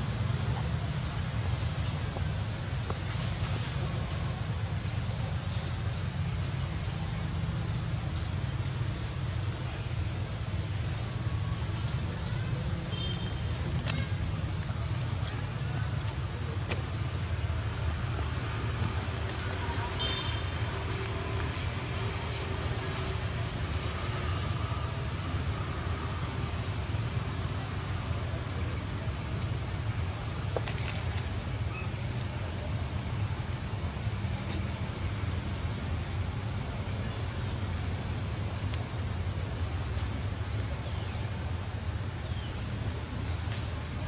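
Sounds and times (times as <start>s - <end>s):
low rumbling background noise: 0.0s - 44.0s.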